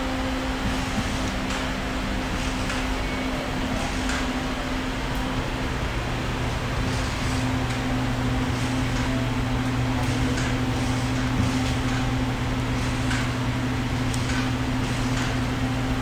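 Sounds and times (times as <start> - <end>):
kitchen equipment hum and hiss: 0.0 - 16.0.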